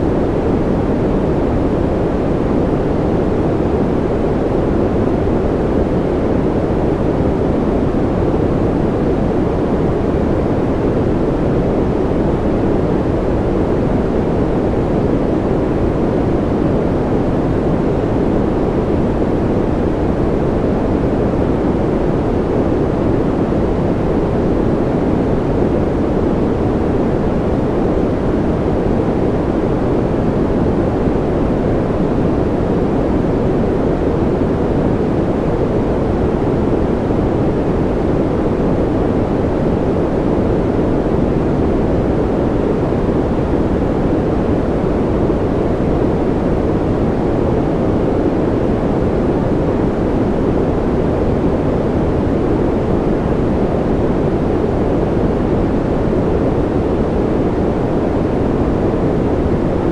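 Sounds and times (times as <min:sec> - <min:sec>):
deep white noise hiss: 0:00.0 - 0:59.9.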